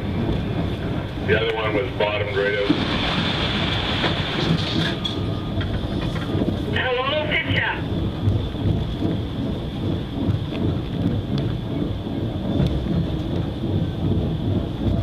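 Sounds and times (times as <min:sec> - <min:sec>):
wheel loader diesel engine: 0:00.0 - 0:15.0
rock crusher running: 0:01.2 - 0:15.0.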